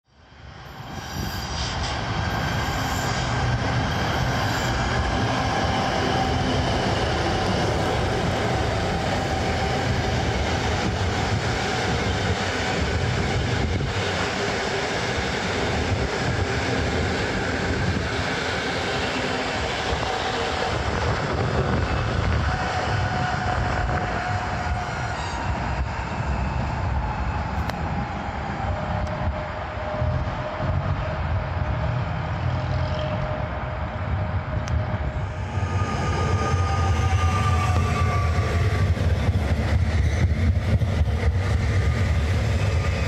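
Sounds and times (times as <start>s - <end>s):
train wheels rumbling on rail: 0.3s - 43.0s.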